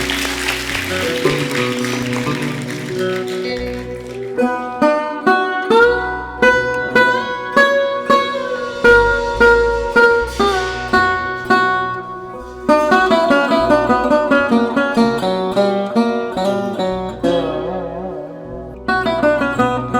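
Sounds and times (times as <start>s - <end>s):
sarod plucked melody: 0.0s - 19.9s.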